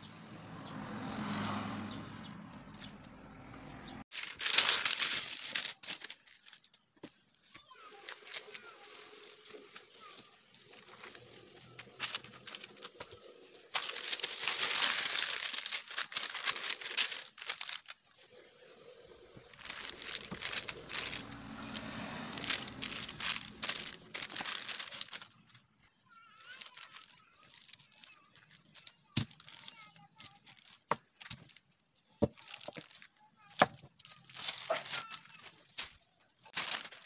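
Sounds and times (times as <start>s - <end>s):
cling film and paper crinkling: 4.1s - 37.0s.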